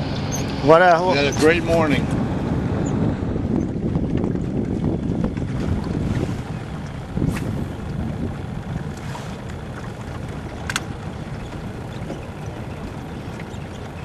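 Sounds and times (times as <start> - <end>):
open water ambience: 0.0 - 14.0
wind rumble on microphone: 0.0 - 14.0.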